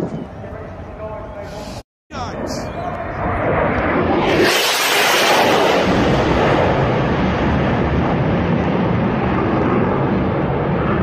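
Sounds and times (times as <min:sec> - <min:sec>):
jet fighter roaring overhead: 0:00.0 - 0:11.0
crackling low rumble: 0:02.1 - 0:11.0.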